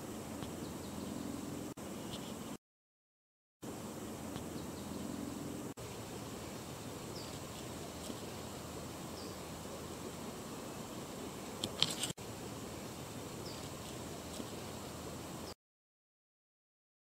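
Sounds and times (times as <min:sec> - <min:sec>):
outdoor background hiss: 0:00.0 - 0:02.6, 0:03.6 - 0:15.6.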